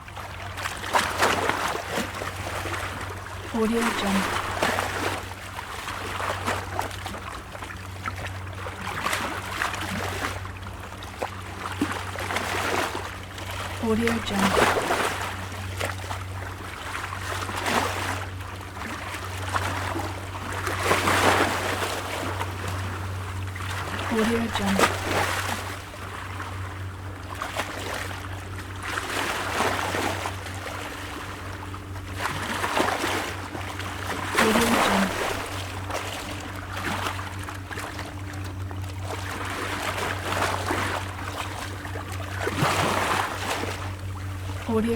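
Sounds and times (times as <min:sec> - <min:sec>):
steady low hum: 0:01.4 - 0:44.9.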